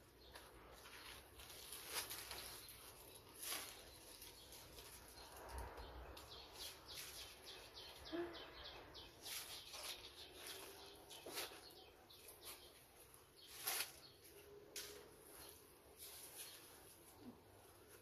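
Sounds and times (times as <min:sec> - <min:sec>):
leaves and twigs rustling: 0:00.0 - 0:08.1, 0:08.7 - 0:18.0.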